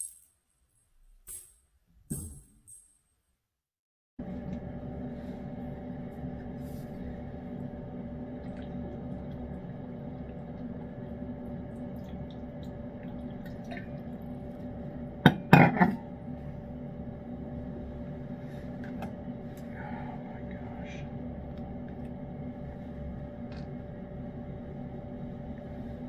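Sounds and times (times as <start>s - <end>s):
steady background hum: 4.2s - 26.0s.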